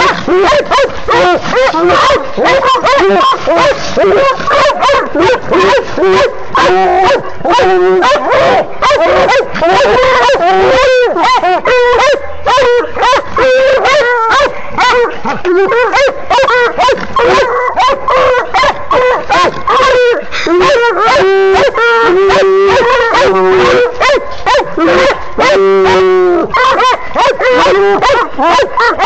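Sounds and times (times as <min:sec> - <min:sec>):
dog bawling: 0:00.0 - 0:29.0
dogs barking and yipping: 0:00.0 - 0:29.0.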